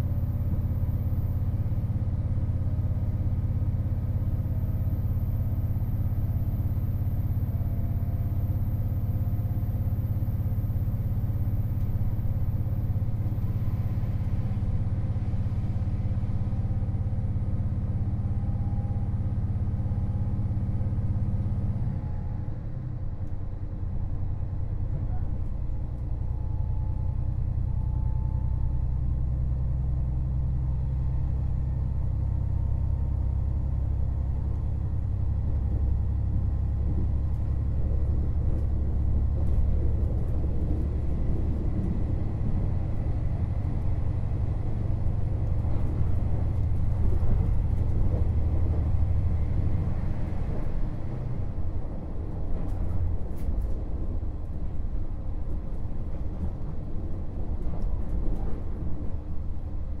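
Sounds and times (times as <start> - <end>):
diesel engine drone: 0.0 - 60.0
train running rumble: 0.0 - 60.0.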